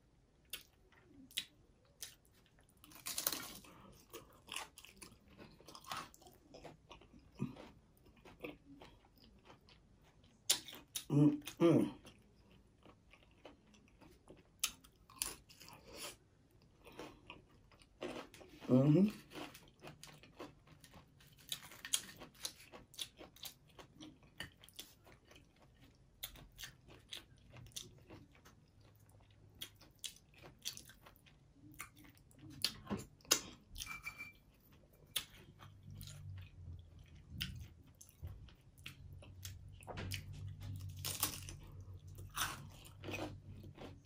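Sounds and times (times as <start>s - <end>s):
person chewing and crunching food: 0.1s - 44.0s.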